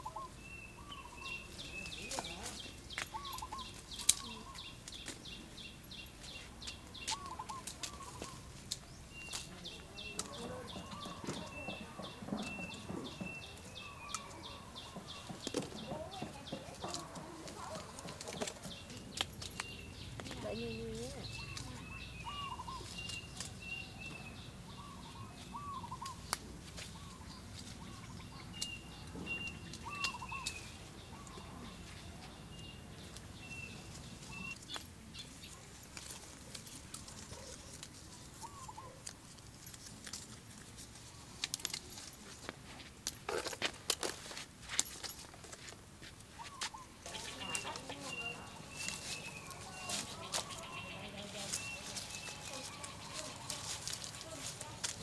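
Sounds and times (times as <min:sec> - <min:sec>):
birds chirping: 0:00.0 - 0:45.6, 0:46.2 - 0:55.0.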